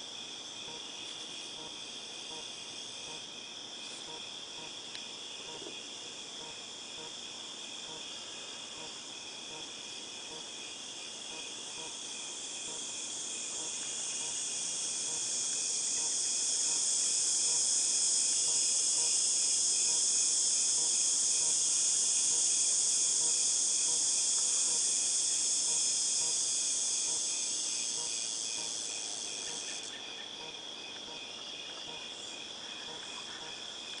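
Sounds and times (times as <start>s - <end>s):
cicadas buzzing: 0.0s - 34.0s
insects trilling: 0.0s - 34.0s.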